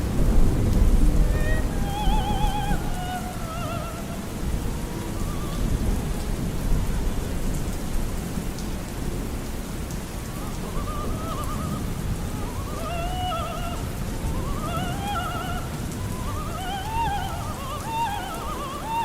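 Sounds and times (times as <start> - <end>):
faint operatic singing voice: 0.0 - 19.0
rolling thunder rumble: 0.0 - 19.0
steady rain: 0.0 - 19.0.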